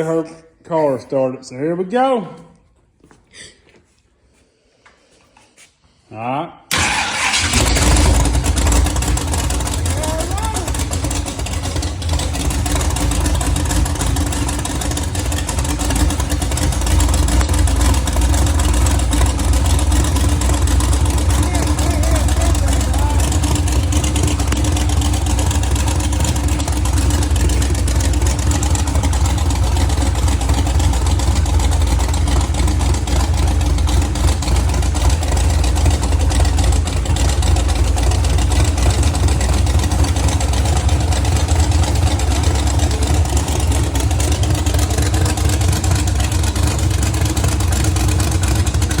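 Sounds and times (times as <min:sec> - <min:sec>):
race car engine running: 0:06.7 - 0:49.0.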